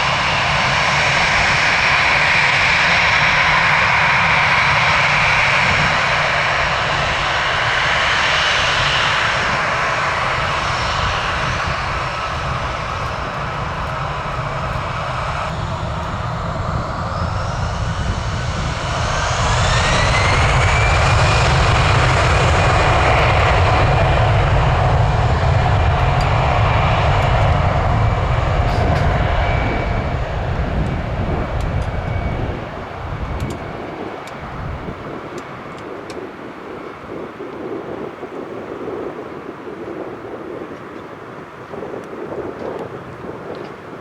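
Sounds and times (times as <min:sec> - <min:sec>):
jet engines spooling up: 0:00.0 - 0:39.4.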